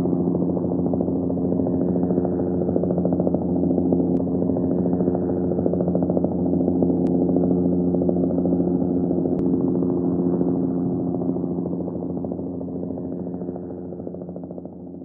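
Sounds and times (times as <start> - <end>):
helicopter engine: 0.0 - 15.0.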